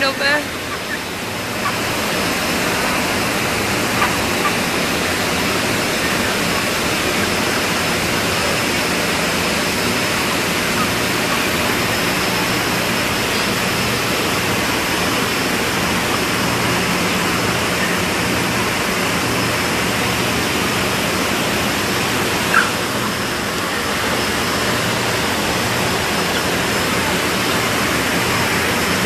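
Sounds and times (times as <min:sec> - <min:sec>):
industrial rushing noise: 0:00.0 - 0:29.0.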